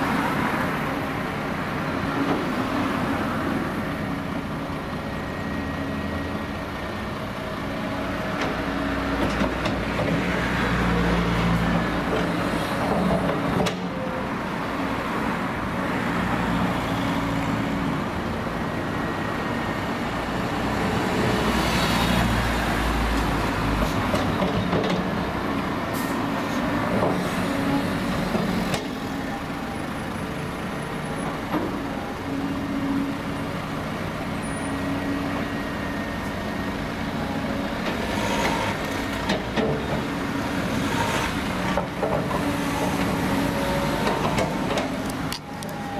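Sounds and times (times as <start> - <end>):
excavator diesel engine working: 0.0 - 45.9.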